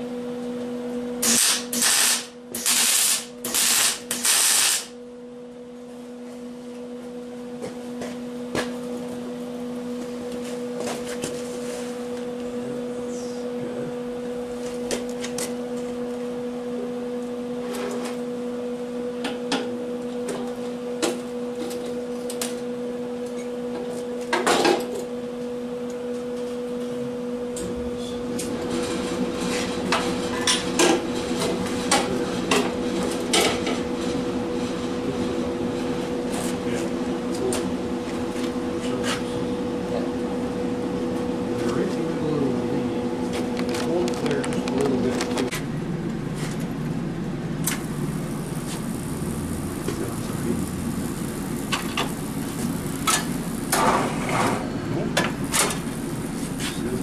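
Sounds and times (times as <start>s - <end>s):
steady low hum: 0.0s - 24.3s, 24.9s - 57.0s.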